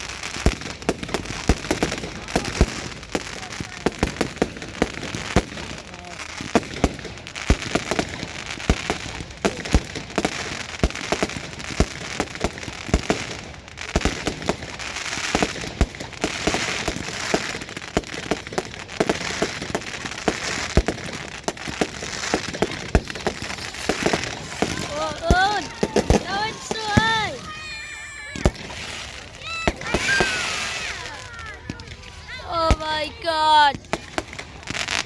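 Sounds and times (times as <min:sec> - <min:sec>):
fireworks bangs and pops: 0:00.0 - 0:35.0
fireworks crackling hiss: 0:00.0 - 0:35.0.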